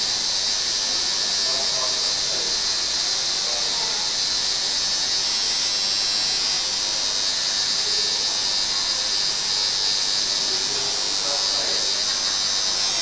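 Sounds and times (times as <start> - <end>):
tattoo machine buzzing: 0.0 - 13.0.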